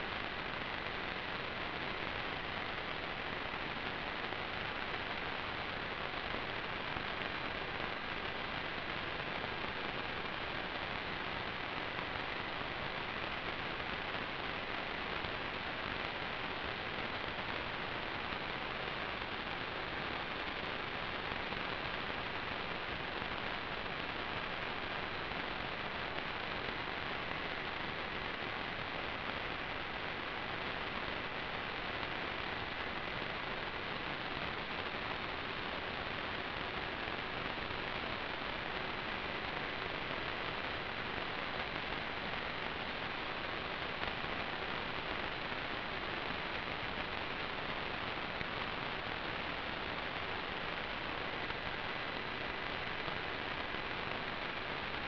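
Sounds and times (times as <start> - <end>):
static hiss: 0.0 - 55.0.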